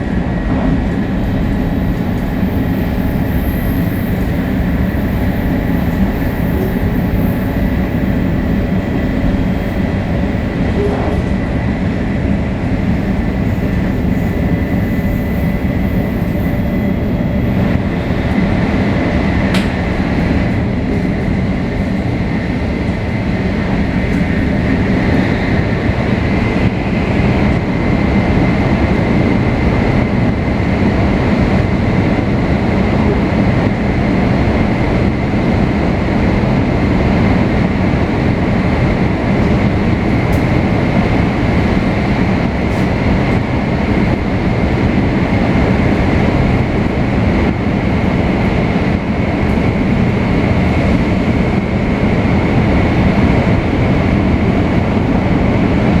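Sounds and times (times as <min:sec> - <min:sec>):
train wheels and motors rumbling: 0:00.0 - 0:56.0.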